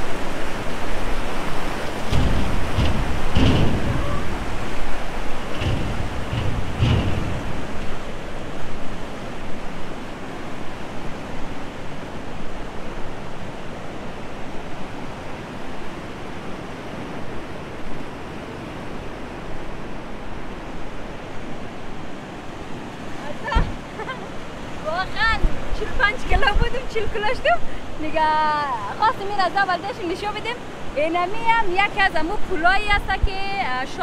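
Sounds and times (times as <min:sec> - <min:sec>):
river rushing: 0:00.0 - 0:34.0.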